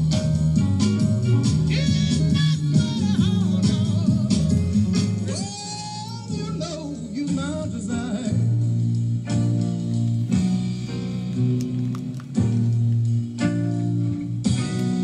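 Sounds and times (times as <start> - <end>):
blues band with guitar: 0.0 - 15.0
person singing blues: 1.2 - 14.0.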